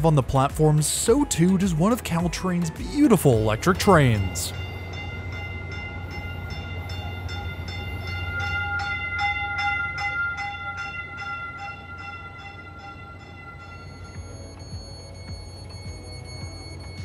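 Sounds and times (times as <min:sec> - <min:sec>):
low steady train rumble: 0:00.0 - 0:17.0
train alert bell ringing: 0:00.0 - 0:17.0.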